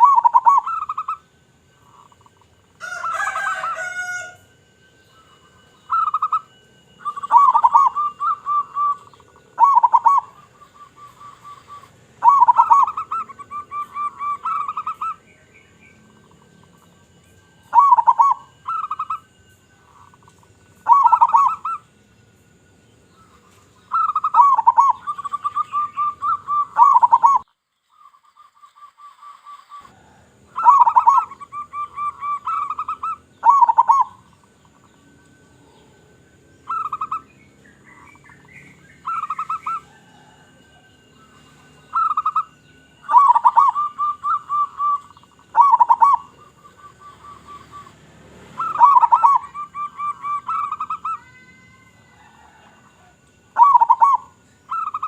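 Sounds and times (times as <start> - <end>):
dove cooing: 0.0 - 4.4, 5.1 - 21.9, 23.2 - 27.5, 29.5 - 37.3, 37.9 - 55.0
higher bird chirps: 0.0 - 55.0.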